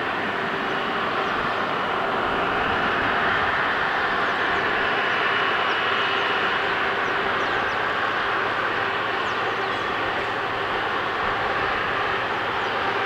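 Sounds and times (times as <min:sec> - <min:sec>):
high steady whine: 0:00.0 - 0:13.0
jet engines roaring: 0:00.0 - 0:13.0.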